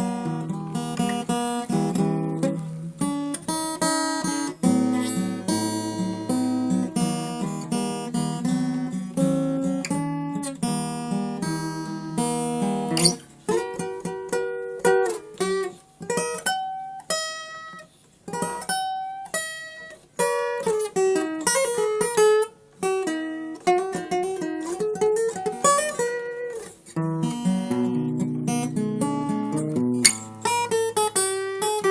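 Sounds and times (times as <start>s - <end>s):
acoustic guitar playing: 0.0s - 31.9s.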